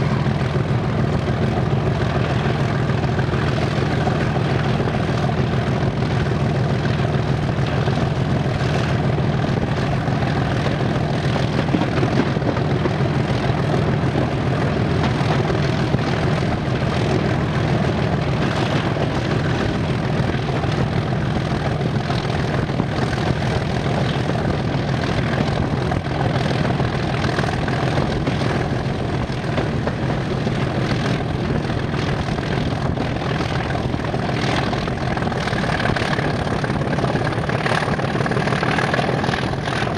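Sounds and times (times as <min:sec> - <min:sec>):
diesel locomotive engines droning: 0:00.0 - 0:39.9.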